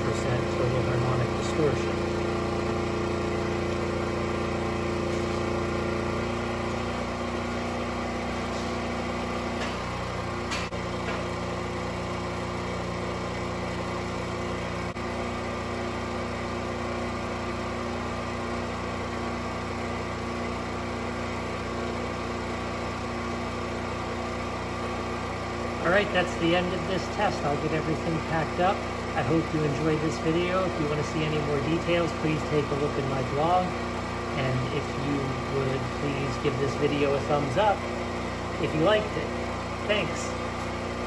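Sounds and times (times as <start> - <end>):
generator engine running: 0.0 - 41.0.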